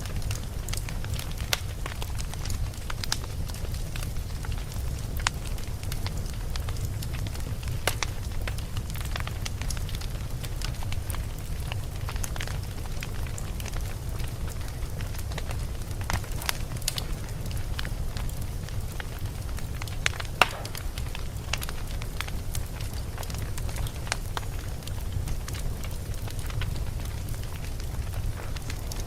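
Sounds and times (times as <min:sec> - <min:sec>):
burning wood crackling and popping: 0:00.0 - 0:29.0
flames rumbling: 0:00.0 - 0:29.0.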